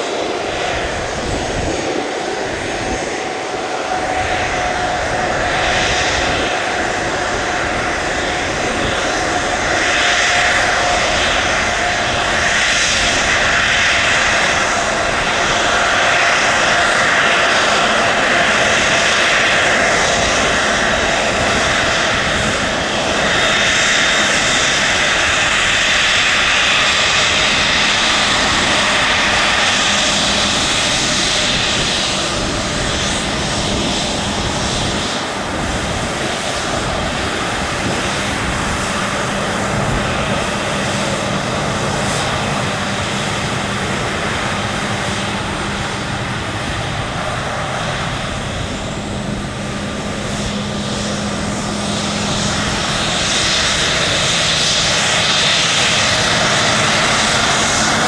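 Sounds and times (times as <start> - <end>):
airliner engines whining: 0.0 - 58.0.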